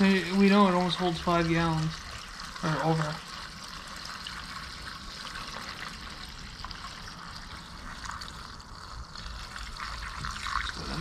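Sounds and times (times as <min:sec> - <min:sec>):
gasoline pouring into tank: 0:00.0 - 0:11.0.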